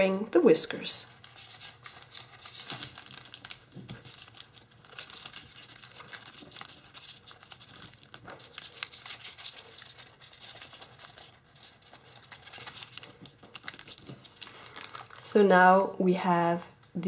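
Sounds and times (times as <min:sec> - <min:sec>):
foil paper crinkling: 0:01.0 - 0:15.3.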